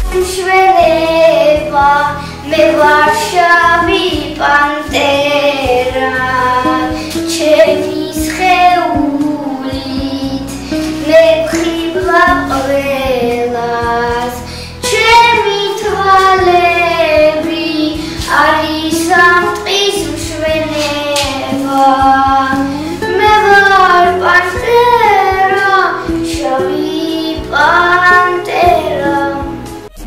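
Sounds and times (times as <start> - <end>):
girl singing: 0.0 - 29.9
backing music track: 0.0 - 30.0.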